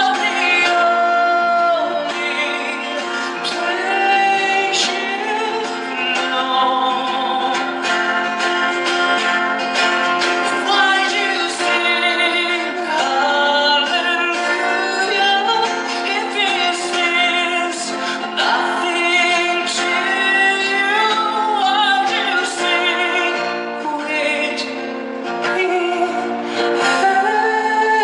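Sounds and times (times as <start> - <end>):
woman singing: 0.0 - 28.0.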